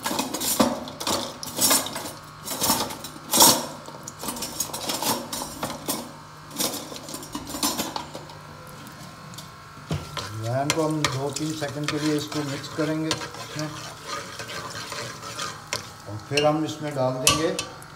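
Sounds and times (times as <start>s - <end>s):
metal utensils and pots clinking: 0.0s - 8.4s, 10.1s - 17.8s.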